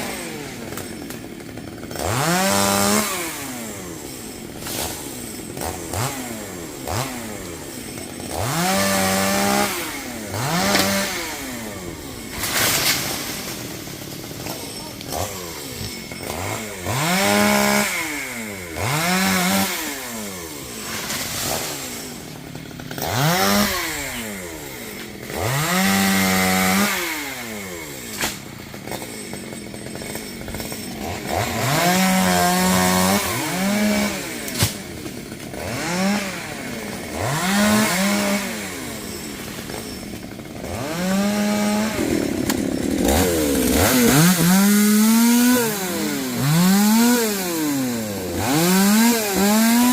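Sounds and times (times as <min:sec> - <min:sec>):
chainsaw revving and idling: 0:00.0 - 0:49.9.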